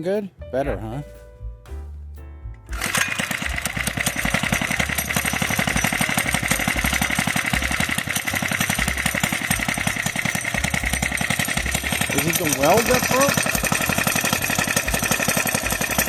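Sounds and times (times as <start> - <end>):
small bike engine running: 2.7 - 16.0.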